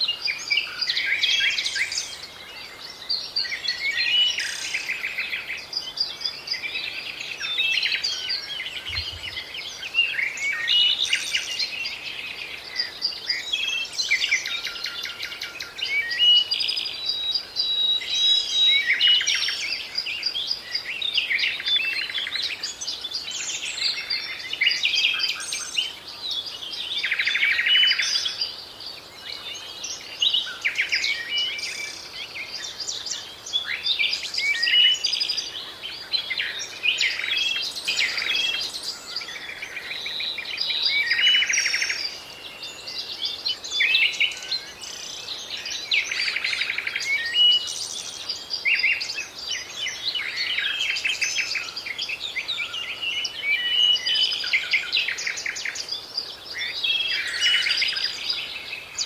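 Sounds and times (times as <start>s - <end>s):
birds chirping and whistling: 0.0s - 59.0s.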